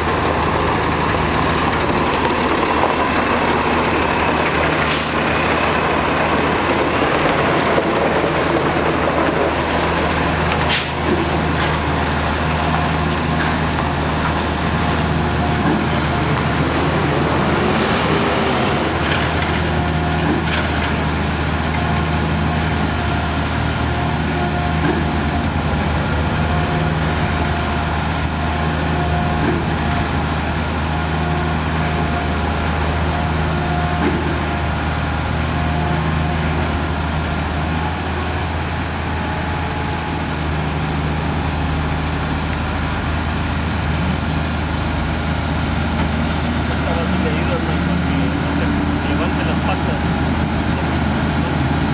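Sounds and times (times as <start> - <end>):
diesel engine low drone: 0.0 - 51.9.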